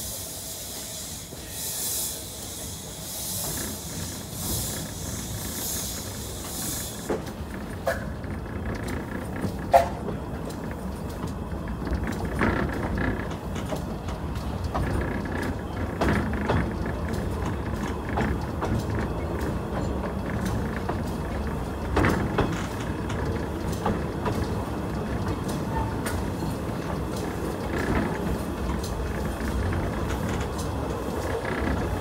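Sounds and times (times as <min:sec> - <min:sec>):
steam locomotive rumbling: 0:00.0 - 0:32.0
wheels clanking and knocking: 0:03.4 - 0:32.0.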